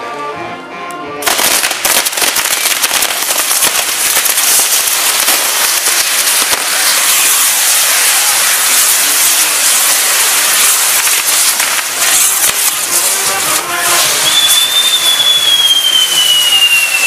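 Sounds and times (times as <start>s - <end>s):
firecrackers crackling: 1.2s - 17.0s.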